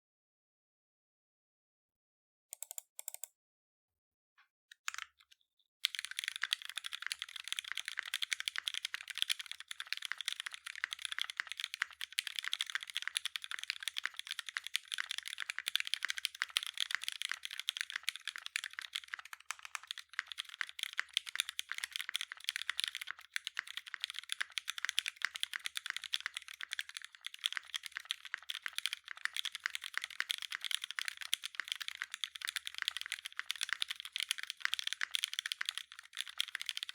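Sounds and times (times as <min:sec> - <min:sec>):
fast mechanical keyboard typing: 0:05.8 - 0:36.9.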